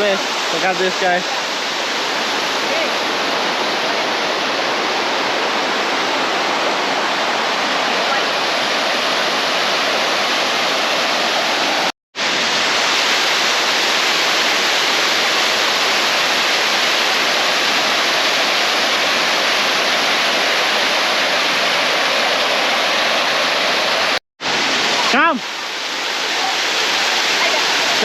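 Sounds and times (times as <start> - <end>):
water rushing below a dam: 0.0 - 28.0.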